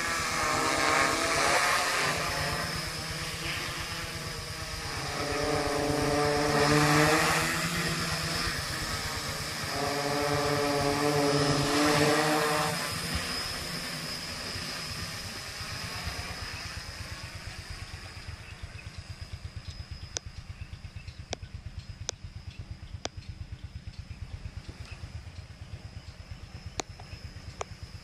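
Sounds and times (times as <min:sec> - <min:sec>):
quadcopter propellers buzzing: 0:00.0 - 0:28.0.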